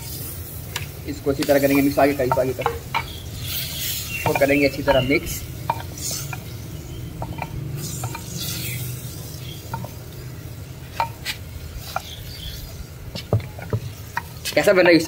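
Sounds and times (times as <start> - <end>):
low sizzle: 0.0 - 15.0.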